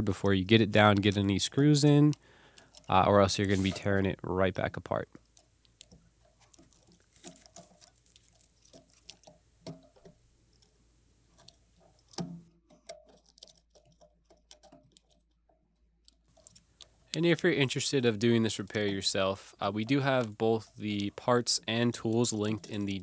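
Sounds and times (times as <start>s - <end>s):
small clicks and taps: 0.1s - 3.0s, 5.1s - 23.0s.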